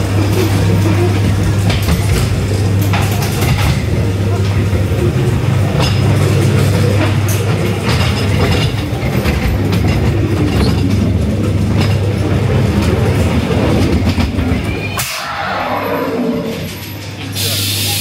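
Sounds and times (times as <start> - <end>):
ride car low hum: 0.0 - 18.0
wheels clacking and rattling on rail: 0.0 - 18.0.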